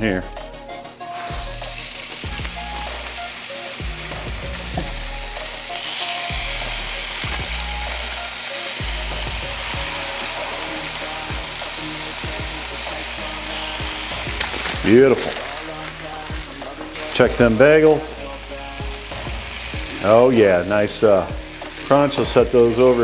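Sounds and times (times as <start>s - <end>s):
steak sizzling on a griddle: 0.3s - 23.0s.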